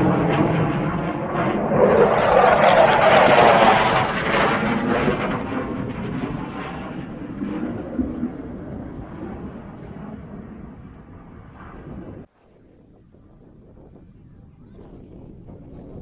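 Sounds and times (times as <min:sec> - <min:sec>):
jet fighter passing overhead: 0:00.0 - 0:16.0.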